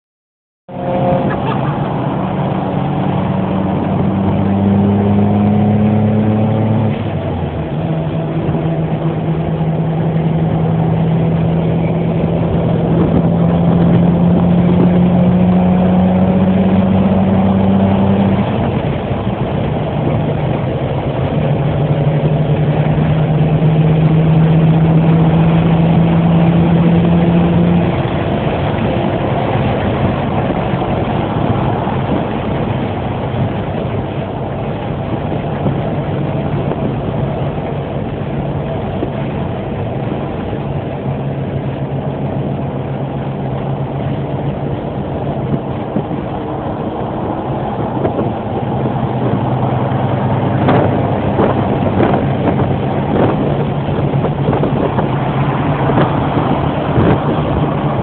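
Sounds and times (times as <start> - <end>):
car engines idling: 0.7 - 58.0.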